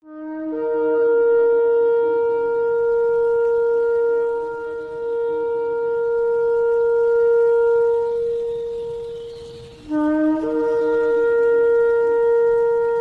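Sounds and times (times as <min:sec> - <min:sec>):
lower wavering tone: 0:00.0 - 0:13.0
ram's horn long note: 0:00.0 - 0:13.0.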